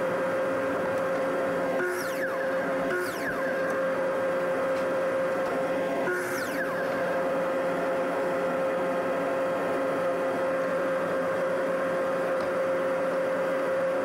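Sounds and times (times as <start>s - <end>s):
low whir: 0.0s - 14.0s
steady mechanical hum: 0.0s - 14.0s.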